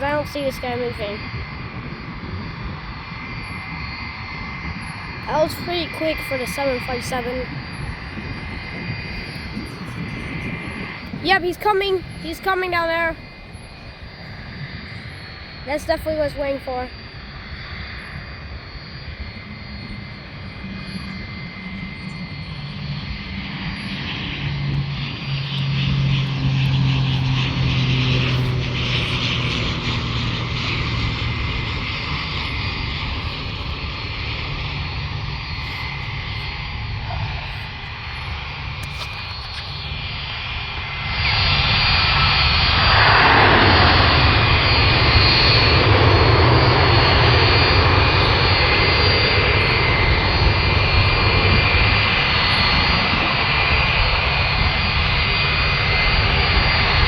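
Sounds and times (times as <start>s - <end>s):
airplane engines droning: 0.0s - 57.0s.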